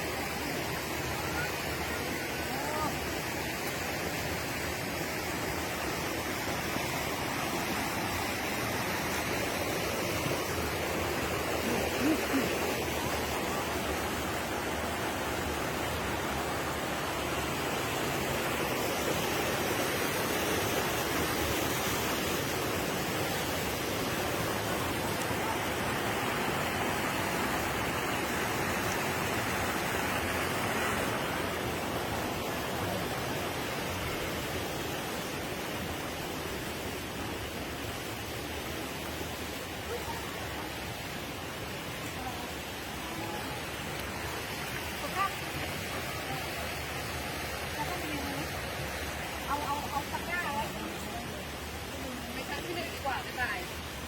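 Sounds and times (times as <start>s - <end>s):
waterfall rushing over rocks: 0.0s - 54.0s.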